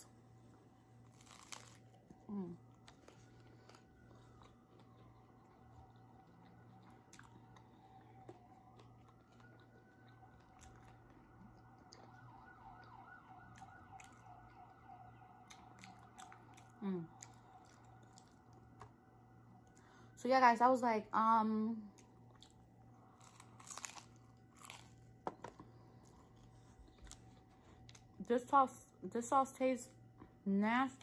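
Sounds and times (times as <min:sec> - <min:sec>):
faint siren wailing: 0:00.0 - 0:30.0.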